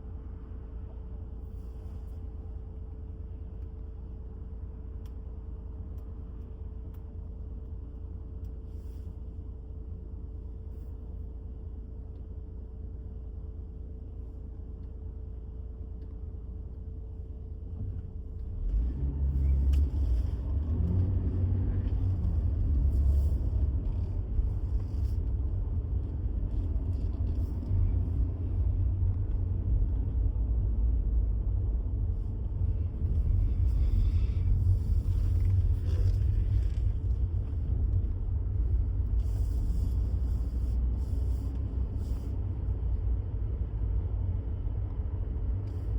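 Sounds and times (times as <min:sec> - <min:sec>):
low steady rumble: 0:00.0 - 0:45.9.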